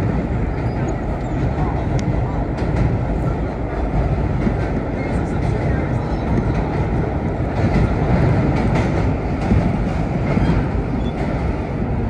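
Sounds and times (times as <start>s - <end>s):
subway train rumbling: 0.0s - 12.0s
wheels clacking on rails: 0.0s - 12.0s.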